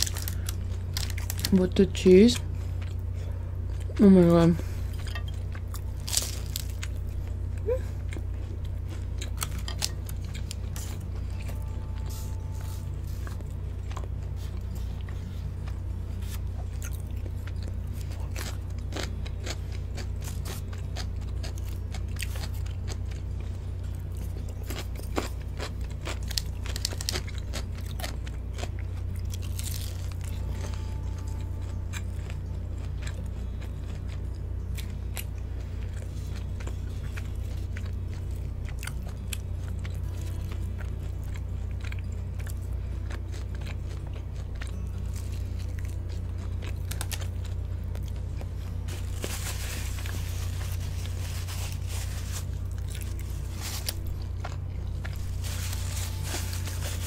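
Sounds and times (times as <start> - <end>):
crunching and chewing: 0.0 - 57.0
low hum: 0.0 - 57.0.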